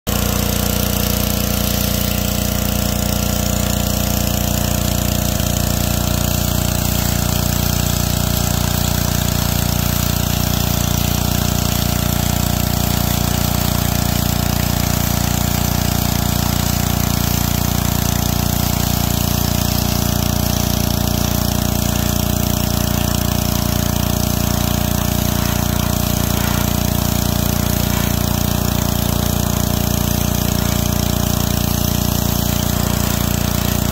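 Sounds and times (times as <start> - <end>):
pressure washer engine running: 0.1 - 33.9
water jet hissing: 0.1 - 33.9.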